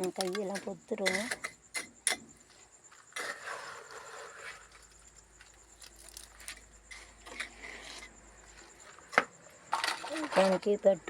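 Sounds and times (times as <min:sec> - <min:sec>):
spoon scraping wet mortar: 0:00.0 - 0:10.8.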